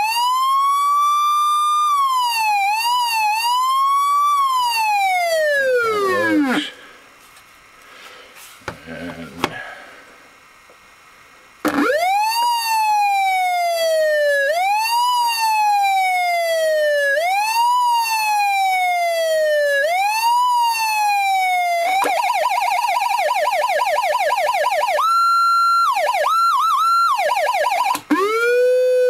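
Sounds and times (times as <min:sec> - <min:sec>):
siren fast yelp: 0:00.0 - 0:06.7, 0:11.7 - 0:29.0
electronic siren wailing: 0:00.0 - 0:06.8, 0:11.6 - 0:29.0
steady high siren tone: 0:00.0 - 0:06.8, 0:11.6 - 0:29.0.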